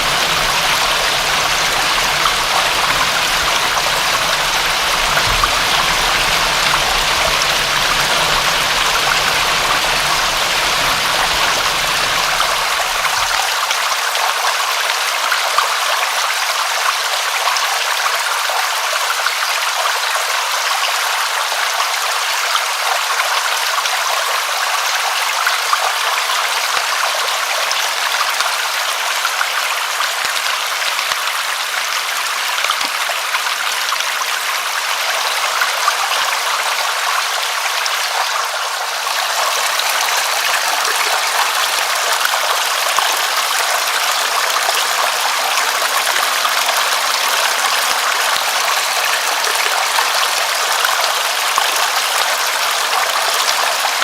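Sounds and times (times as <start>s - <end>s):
steady rain hiss: 0.0s - 15.3s, 24.6s - 54.0s.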